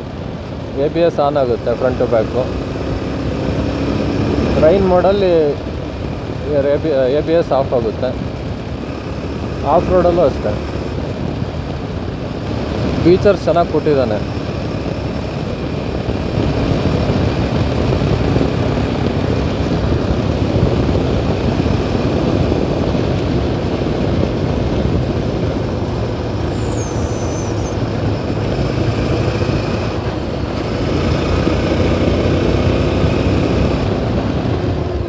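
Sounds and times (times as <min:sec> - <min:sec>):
motorcycle engine running: 0:00.0 - 0:35.0
road and wind noise: 0:00.0 - 0:35.0.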